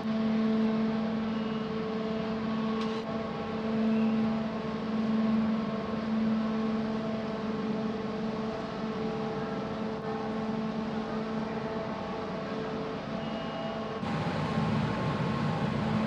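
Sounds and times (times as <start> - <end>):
ferry engines humming: 0.0 - 16.0.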